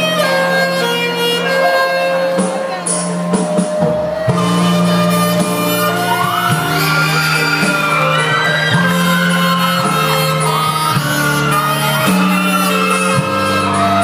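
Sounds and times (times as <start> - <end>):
sliding lead melody: 0.0 - 14.0.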